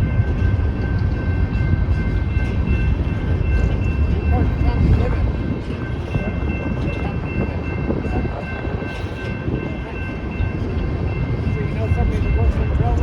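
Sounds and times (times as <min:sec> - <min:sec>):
train rail cars rumbling: 0:00.0 - 0:13.0.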